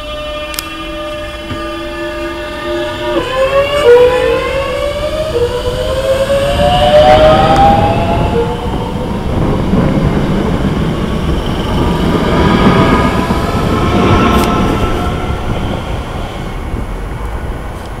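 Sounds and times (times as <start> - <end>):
traction motor whine: 0.0 - 16.8
electric train rumble: 0.0 - 18.0.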